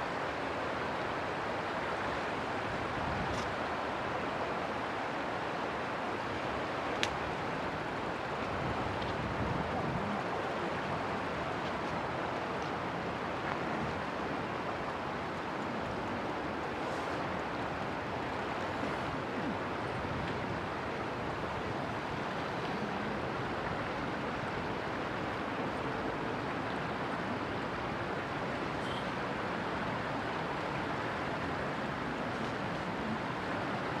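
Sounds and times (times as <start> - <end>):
river water rushing: 0.0 - 34.0
wind: 0.0 - 34.0.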